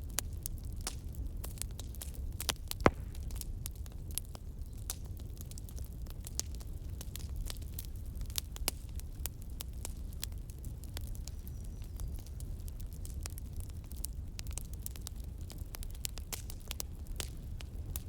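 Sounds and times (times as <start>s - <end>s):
campfire crackling and popping: 0.0s - 18.0s
low rumble of fire: 0.0s - 18.0s.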